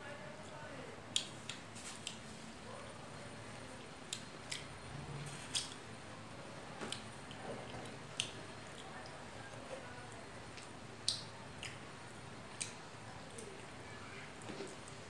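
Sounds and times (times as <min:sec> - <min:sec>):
faint chewing: 0:01.1 - 0:05.9, 0:06.7 - 0:15.0.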